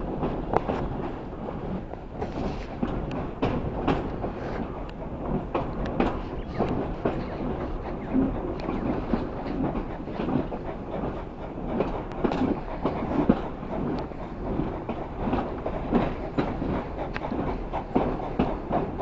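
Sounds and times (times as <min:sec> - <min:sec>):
train rumbling: 0:00.0 - 0:19.0
wheels clacking on track: 0:00.0 - 0:19.0.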